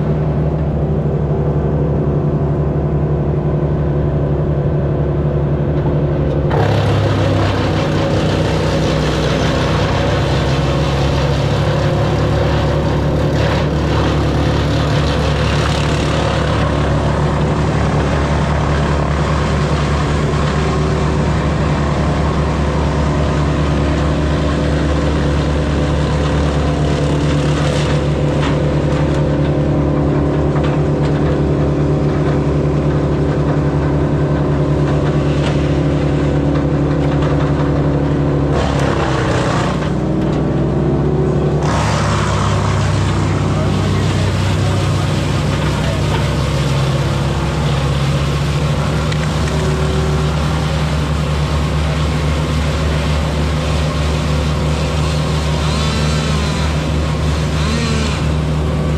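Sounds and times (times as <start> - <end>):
engine running under load: 0.0 - 58.9.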